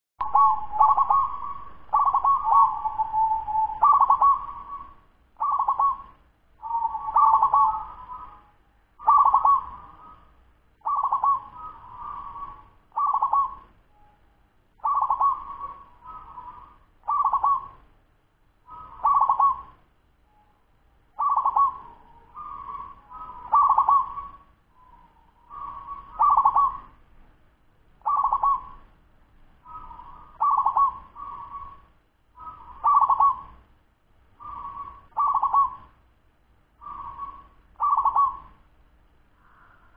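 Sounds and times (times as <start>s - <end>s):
dove cooing: 0.2s - 14.1s, 14.8s - 17.8s, 18.7s - 19.8s, 21.2s - 27.0s, 28.0s - 28.9s, 29.6s - 33.6s, 34.4s - 36.0s, 36.8s - 38.6s.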